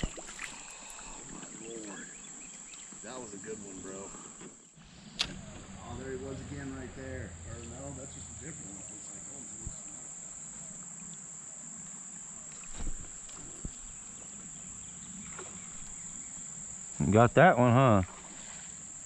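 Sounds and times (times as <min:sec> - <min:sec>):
high-pitched insect chorus: 0:00.1 - 0:19.0.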